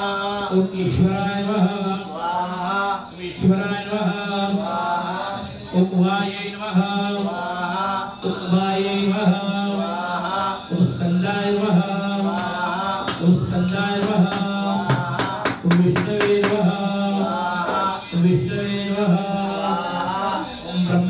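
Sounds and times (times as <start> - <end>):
person chanting mantras: 0.0 - 21.0.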